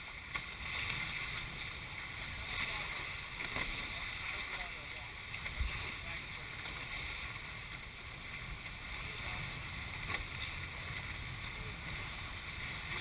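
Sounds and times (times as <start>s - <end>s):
water rushing past boat hulls: 0.0s - 13.0s.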